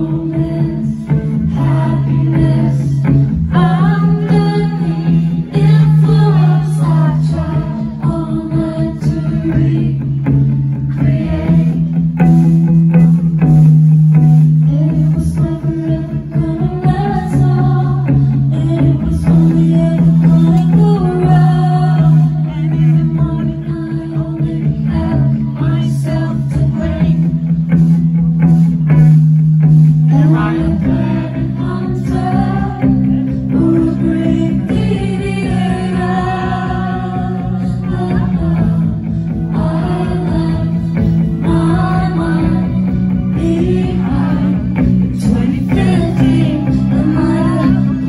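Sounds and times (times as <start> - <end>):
bass notes: 0.0 - 48.0
drums: 0.0 - 48.0
electric guitar chords: 0.0 - 48.0.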